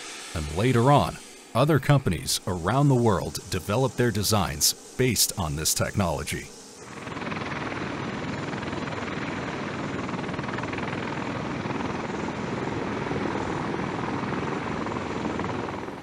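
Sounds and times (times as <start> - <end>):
tiltrotor aircraft rotor beat: 0.0 - 16.0.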